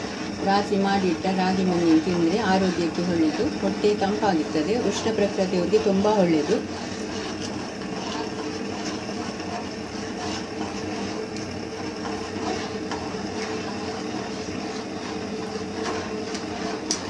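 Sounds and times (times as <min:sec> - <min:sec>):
machine hum: 0:00.0 - 0:17.0
metal spoon scraping a pot: 0:00.0 - 0:17.0.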